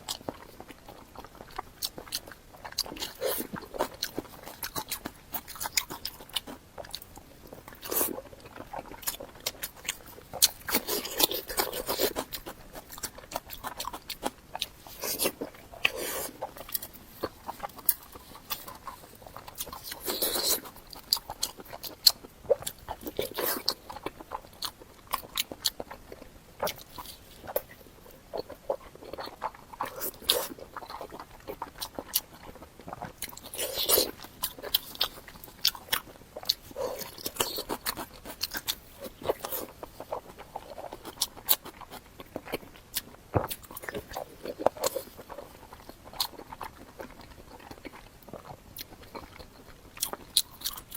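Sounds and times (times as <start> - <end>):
chewing: 0.0 - 50.9
food crunching: 0.0 - 50.9.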